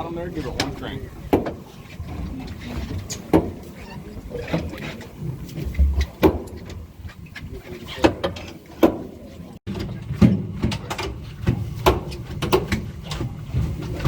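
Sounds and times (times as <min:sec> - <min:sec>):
knocks and clatter on boat deck: 0:00.0 - 0:14.0.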